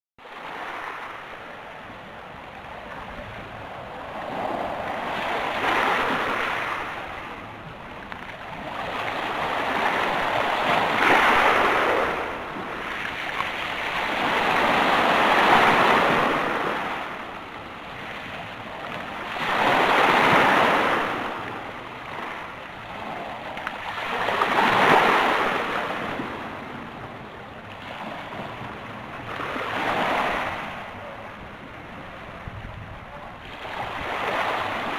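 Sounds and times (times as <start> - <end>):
waves washing on stony beach: 0.2 - 34.9.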